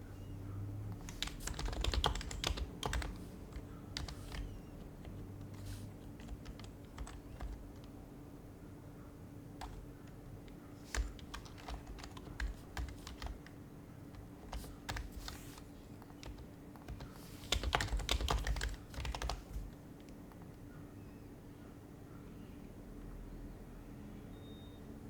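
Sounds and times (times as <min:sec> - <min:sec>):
soft muted keyboard typing: 0:00.0 - 0:08.4, 0:09.0 - 0:21.0.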